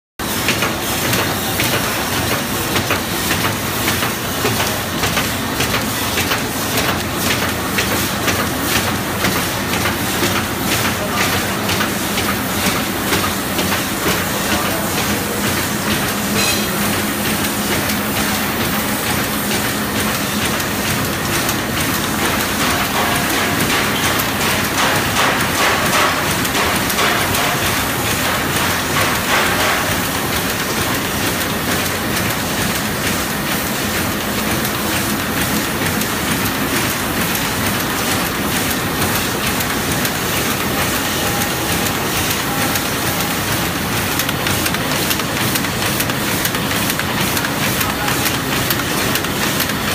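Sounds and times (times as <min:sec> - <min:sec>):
laminating machine clatter and ticking: 0:00.2 - 0:49.9.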